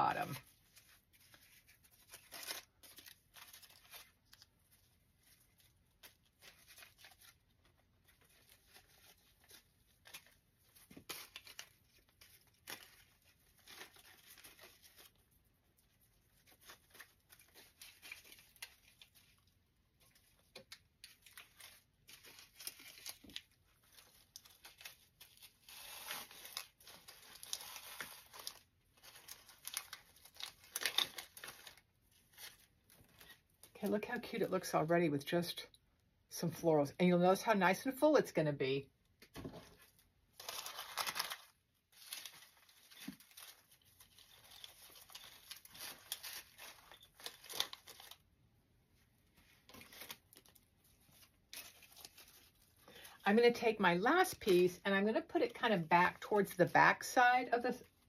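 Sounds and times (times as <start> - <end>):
rustling and crackling of stems: 0.0 - 34.7, 39.1 - 54.6.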